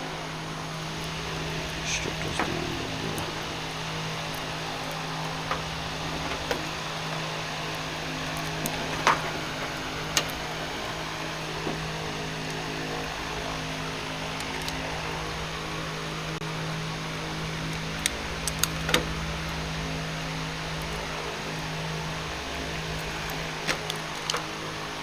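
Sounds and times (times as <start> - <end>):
steady hum and hiss: 0.0 - 25.0.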